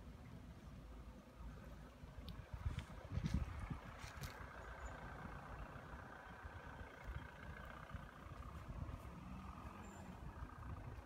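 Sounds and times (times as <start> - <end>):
low rumble: 2.1 - 11.0.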